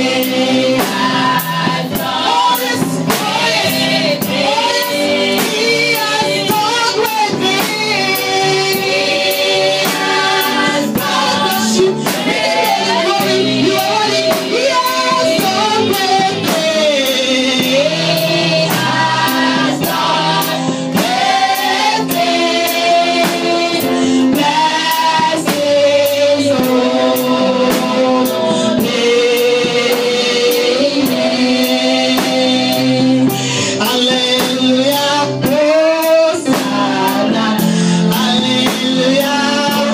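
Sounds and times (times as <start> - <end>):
drums beating: 0.0 - 33.2
band playing: 0.0 - 39.9
voices singing together: 0.0 - 39.9.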